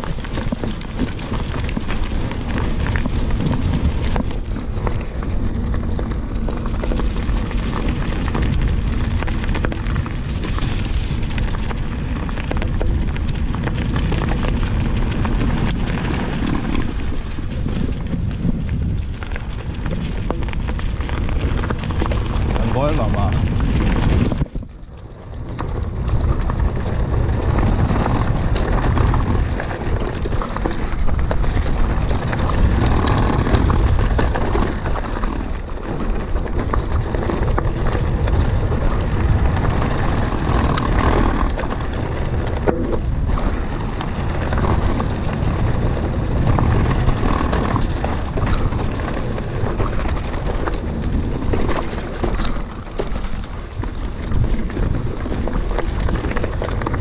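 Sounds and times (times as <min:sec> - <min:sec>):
bike knocking and rattling: 0:00.0 - 0:57.0
bike tyres rolling: 0:00.0 - 0:57.0
wind buffeting microphone: 0:00.0 - 0:57.0.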